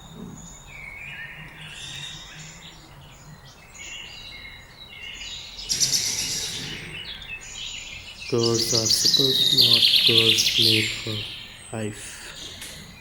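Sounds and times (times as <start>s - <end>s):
bird rapid trill: 0.0s - 13.0s
small birds chirping: 0.0s - 13.0s.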